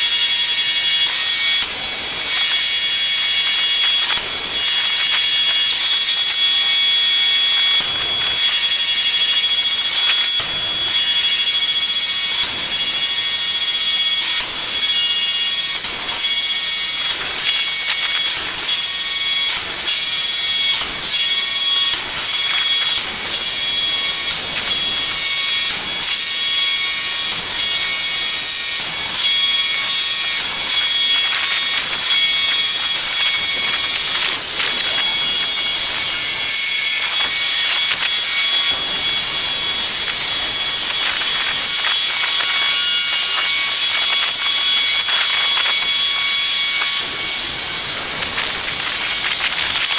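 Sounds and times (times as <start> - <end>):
hydraulic press hissing and whining: 0.0 - 49.9.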